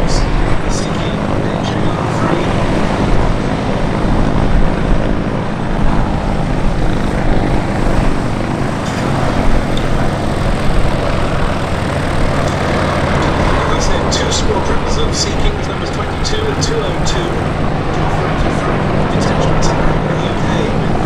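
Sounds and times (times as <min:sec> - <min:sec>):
helicopters flying past: 0:00.0 - 0:21.0.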